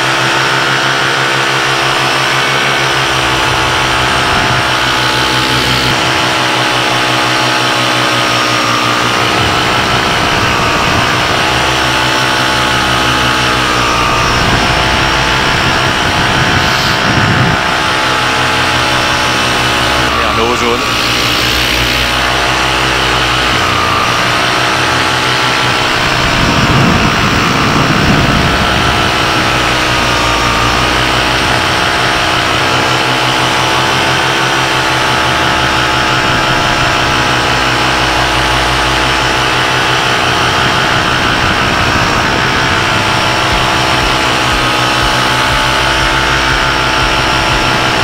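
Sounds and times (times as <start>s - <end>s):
paramotor engine and propeller: 0.0s - 48.0s
wind noise on microphone: 0.0s - 48.0s.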